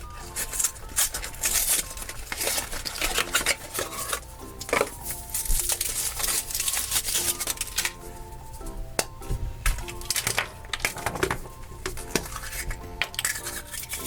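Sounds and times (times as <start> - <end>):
foil wrapper crinkling: 0.0 - 8.6, 9.6 - 14.0.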